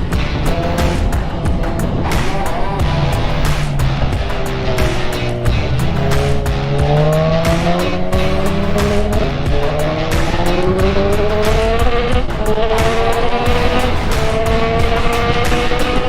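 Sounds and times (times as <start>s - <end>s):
background music with steady beat: 0.0s - 16.0s
motorcycle engine accelerating: 0.0s - 16.0s.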